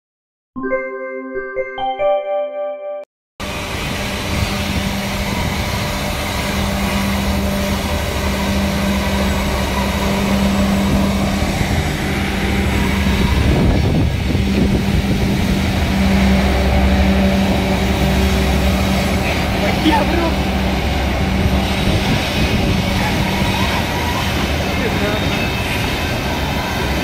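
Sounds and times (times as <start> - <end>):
diesel locomotive rumbling: 3.4 - 27.0.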